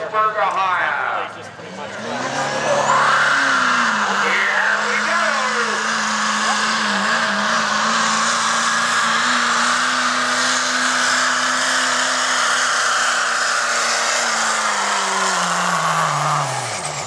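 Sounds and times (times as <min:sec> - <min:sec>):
diesel engine at high revs: 0:00.0 - 0:17.0.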